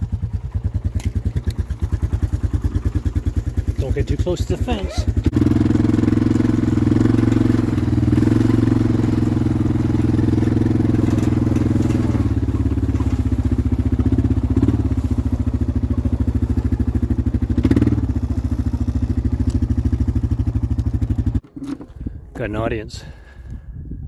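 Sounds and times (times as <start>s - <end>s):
vehicle engine running while driving: 0.0s - 21.4s.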